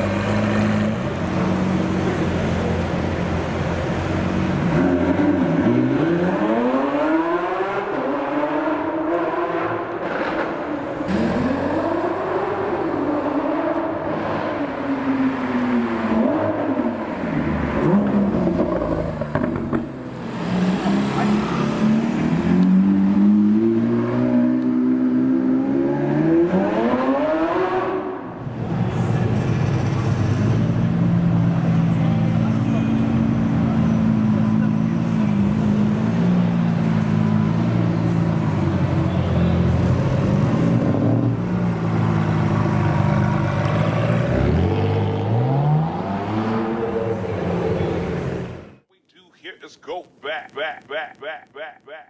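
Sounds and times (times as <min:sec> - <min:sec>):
car engine revving and accelerating: 0:00.0 - 0:28.3, 0:32.5 - 0:48.6.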